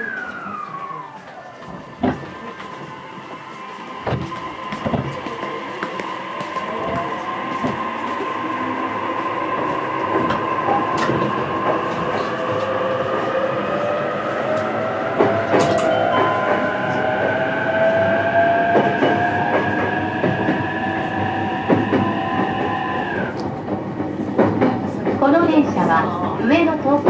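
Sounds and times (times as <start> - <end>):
electric train inverter whine: 0.0 - 23.7
rail clicks: 0.0 - 27.0
wheel and rail rumble: 0.0 - 27.0.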